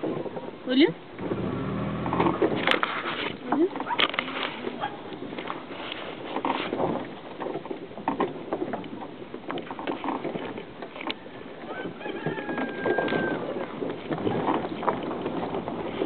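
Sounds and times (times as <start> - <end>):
steady road noise: 0.0 - 16.0.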